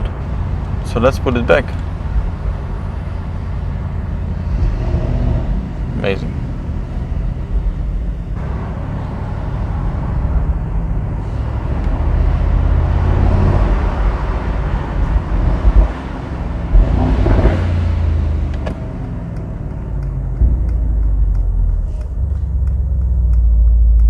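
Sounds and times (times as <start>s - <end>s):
car engine and exhaust driving: 0.0s - 24.0s
road noise: 0.0s - 24.0s.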